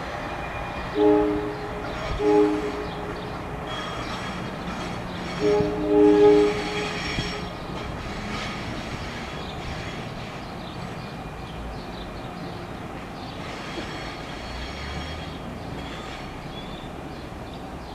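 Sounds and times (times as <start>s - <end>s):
train passing on rails: 0.0s - 17.9s.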